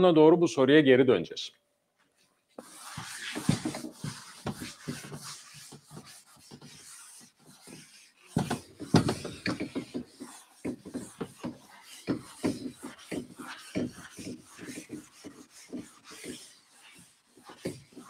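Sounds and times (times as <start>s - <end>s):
eraser wiping a chalkboard: 2.5s - 18.0s.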